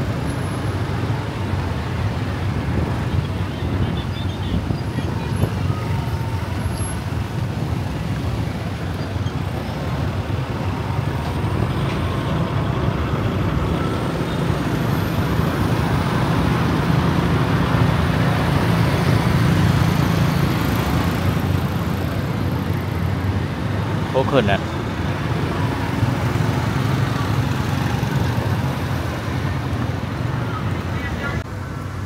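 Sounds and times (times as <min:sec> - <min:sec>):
road traffic hum: 0:00.0 - 0:32.0.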